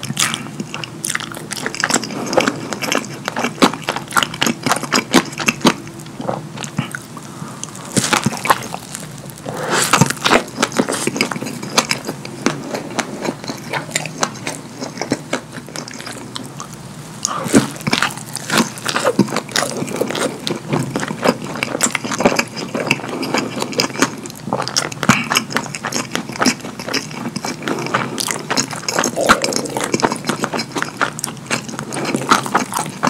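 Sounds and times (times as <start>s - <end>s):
wet chewing and lip-smacking: 0.0s - 33.0s.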